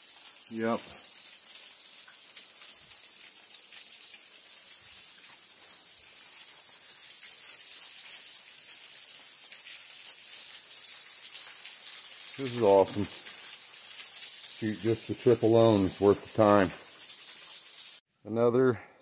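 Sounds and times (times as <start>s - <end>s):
small waterfall splashing: 0.0s - 18.0s.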